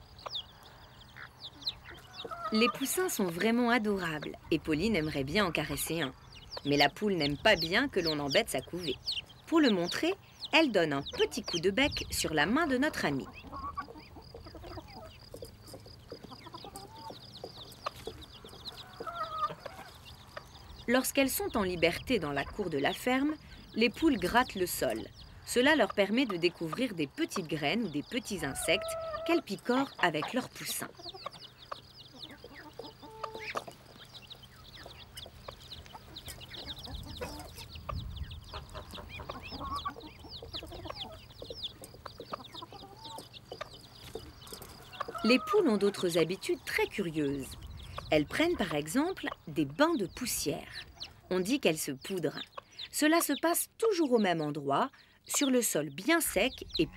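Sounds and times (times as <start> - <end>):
chicks peeping: 0.0 - 56.9
hen clucking: 0.0 - 56.9.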